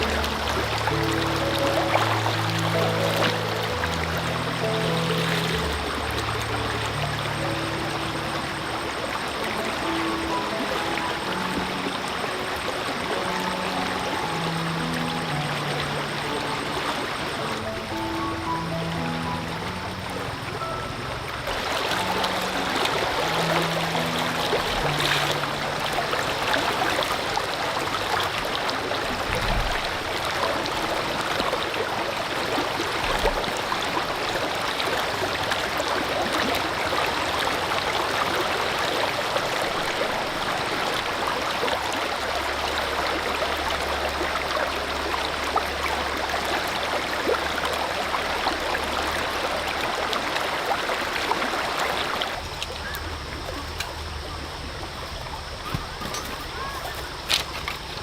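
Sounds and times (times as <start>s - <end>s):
stream water splashing over rocks: 0.0s - 58.0s.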